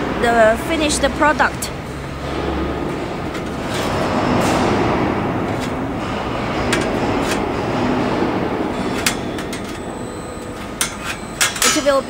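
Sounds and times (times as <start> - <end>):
factory machinery rumble: 0.0 - 12.0
sheet metal parts clinking: 1.9 - 12.0.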